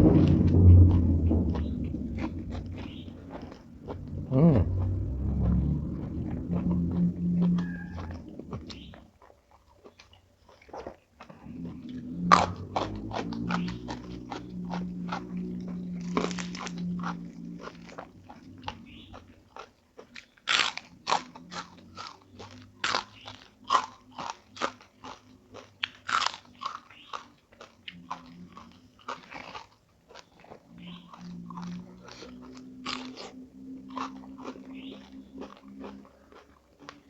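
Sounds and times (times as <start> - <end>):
person chewing crunchy food: 6.9 - 37.0.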